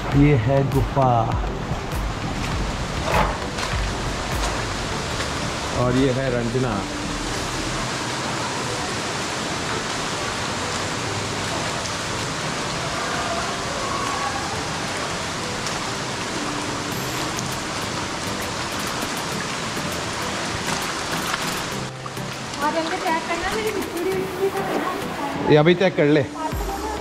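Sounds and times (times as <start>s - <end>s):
rush of falling water: 0.0s - 27.0s.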